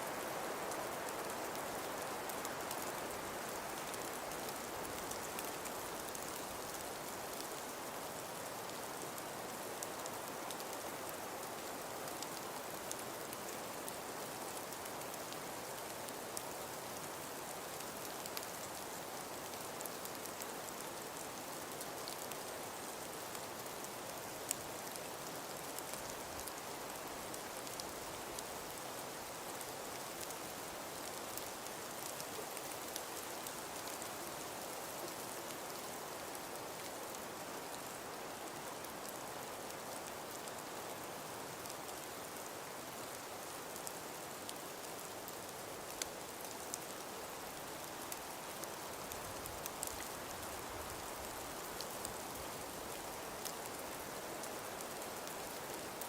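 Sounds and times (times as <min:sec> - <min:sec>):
hiss of wind-driven snow: 0:00.0 - 0:56.0.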